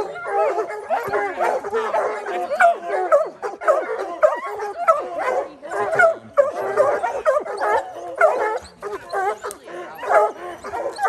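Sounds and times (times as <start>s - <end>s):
hounds barking and baying: 0.0s - 11.0s.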